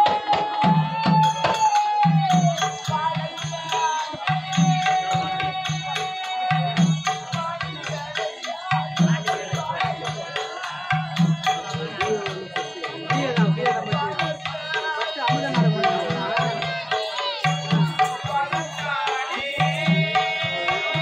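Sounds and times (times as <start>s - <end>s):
hand drum fast rhythm: 0.0s - 21.0s.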